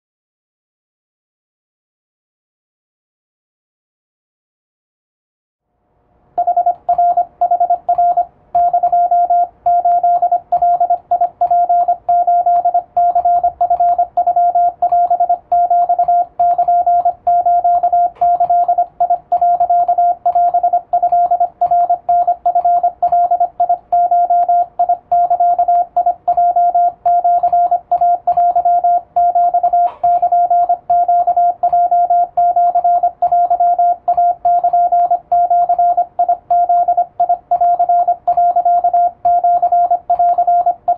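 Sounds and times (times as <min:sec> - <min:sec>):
morse code tone: 0:06.4 - 0:40.9.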